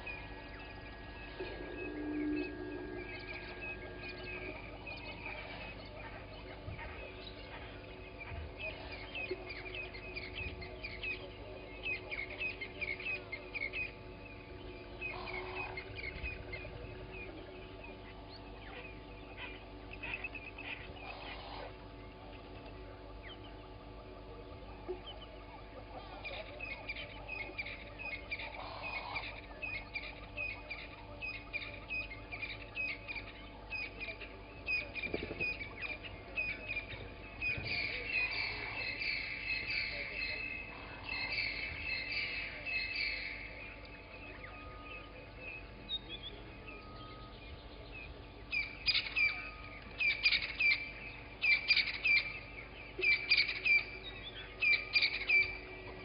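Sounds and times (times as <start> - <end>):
sharp bird calls: 0.0 - 23.6, 24.9 - 56.0
wild birds chirping: 0.0 - 56.0.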